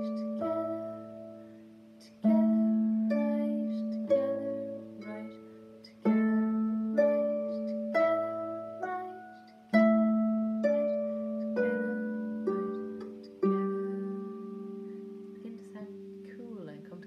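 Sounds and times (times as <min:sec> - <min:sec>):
harp plucked notes and chords: 0:00.0 - 0:17.0.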